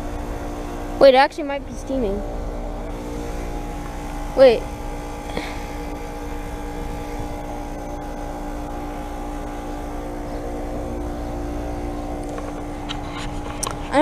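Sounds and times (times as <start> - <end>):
heat pump compressor humming: 0.0 - 14.0.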